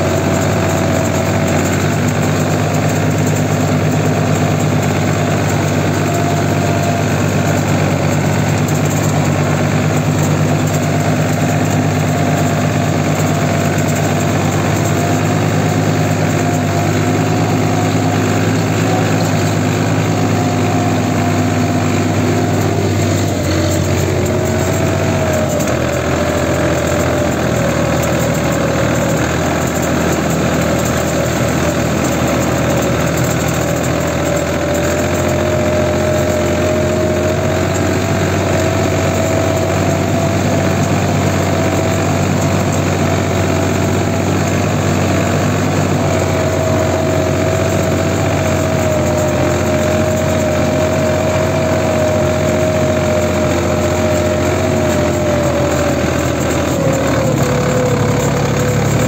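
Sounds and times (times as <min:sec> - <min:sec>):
tractor diesel engine running: 0:00.0 - 0:59.0
whining tone: 0:00.0 - 0:59.0.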